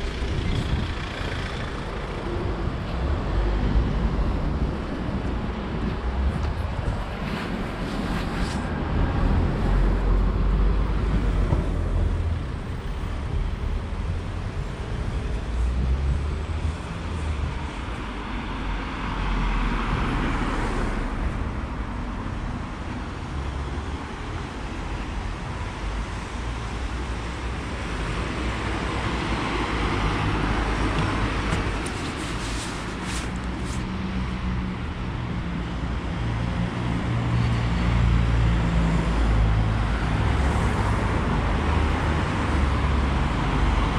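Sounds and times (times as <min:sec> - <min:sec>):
cars passing: 0:00.0 - 0:43.9.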